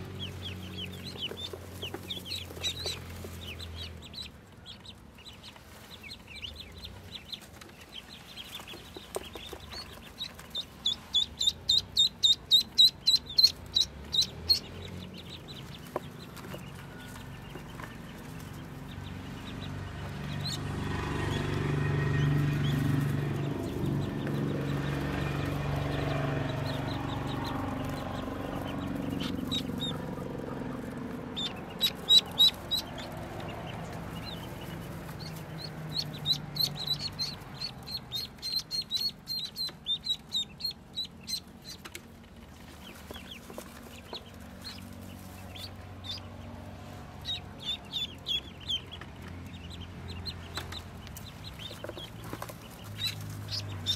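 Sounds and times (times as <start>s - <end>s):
ducklings peeping: 0.0s - 53.9s.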